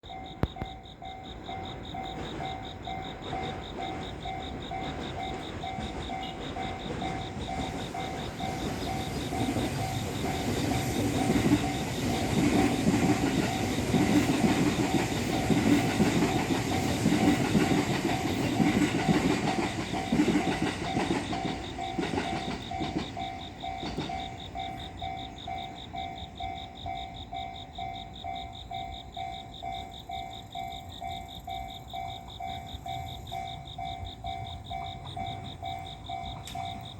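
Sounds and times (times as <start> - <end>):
level crossing warning bell: 0.0 - 36.9
electric train rumble: 0.1 - 36.9.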